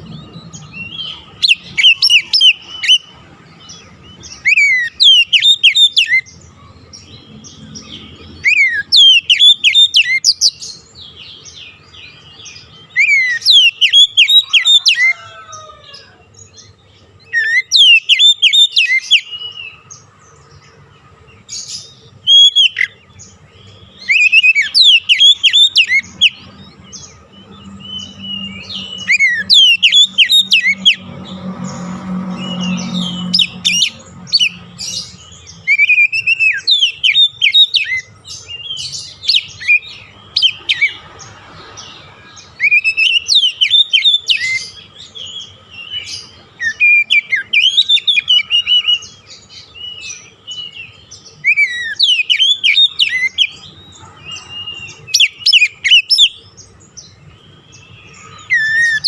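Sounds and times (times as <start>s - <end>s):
bird singing chirps and whistles: 0.0s - 20.1s, 21.4s - 59.0s.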